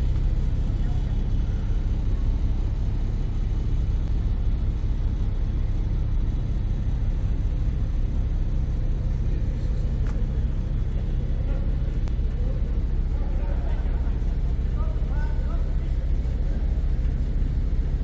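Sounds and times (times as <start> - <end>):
ferry engine drone: 0.0 - 18.0
wind: 0.0 - 18.0.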